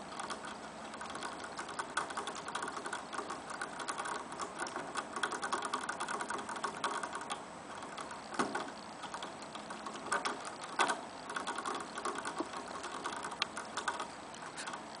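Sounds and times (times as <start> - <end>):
rabbit licking metal sipper tube: 0.0 - 15.0.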